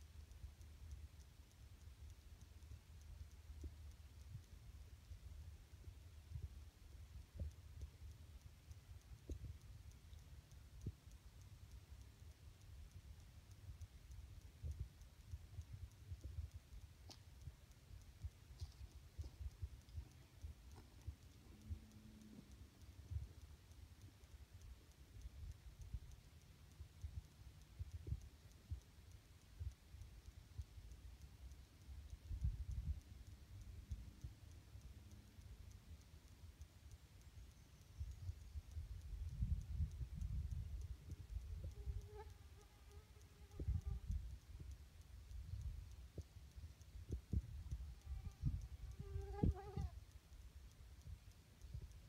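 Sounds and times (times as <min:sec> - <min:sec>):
faint high ticks: 0:00.0 - 0:52.0.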